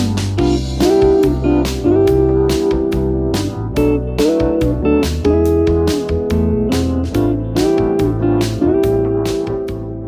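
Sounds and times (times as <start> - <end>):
bass: 0.0 - 10.0
guitar: 0.0 - 10.0
keyboard: 0.0 - 10.0
regular beat: 0.0 - 10.0.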